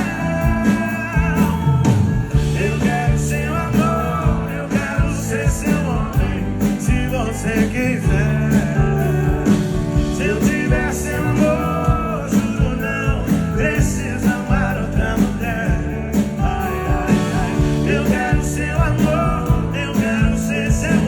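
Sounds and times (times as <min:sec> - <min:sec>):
band playing guitars and drums: 0:00.0 - 0:21.0
person singing: 0:00.0 - 0:21.0.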